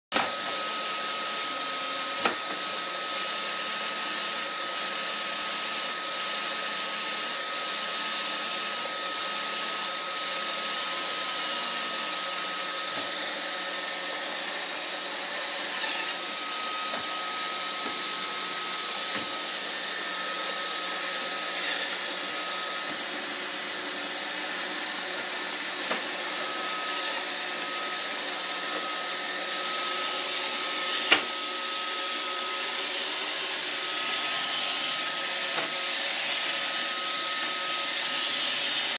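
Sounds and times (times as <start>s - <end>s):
robot vacuum running: 0.2s - 38.9s.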